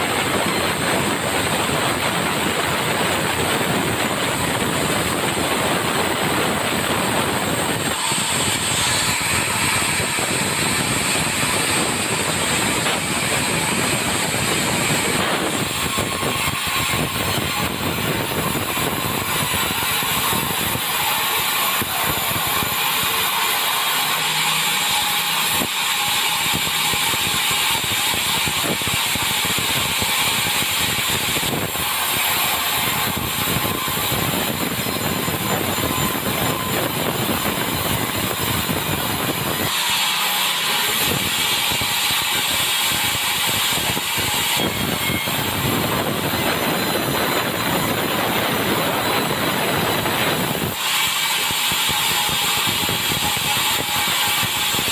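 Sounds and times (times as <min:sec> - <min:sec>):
saw cutting through timber: 0:00.0 - 0:54.9.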